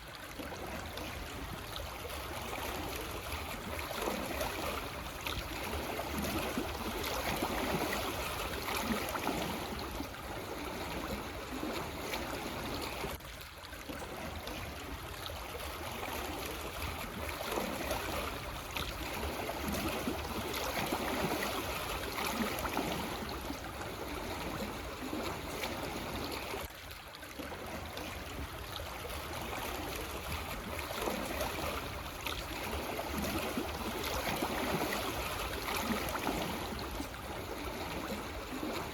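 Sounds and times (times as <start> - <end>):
small waves lapping on stones: 0.0 - 38.9.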